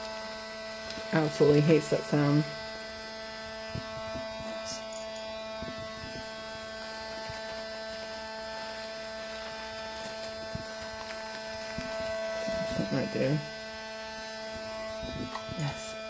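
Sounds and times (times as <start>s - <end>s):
rotary tool whining: 0.0s - 16.0s.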